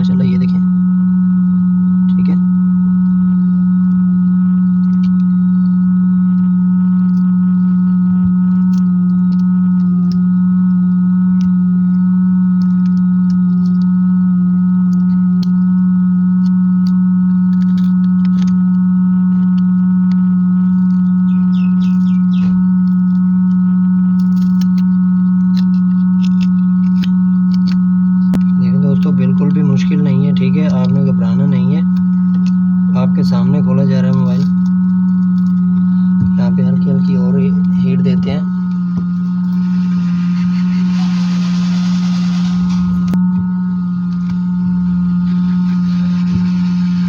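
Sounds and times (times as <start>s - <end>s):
hot air station blowing hum: 0.0s - 47.0s.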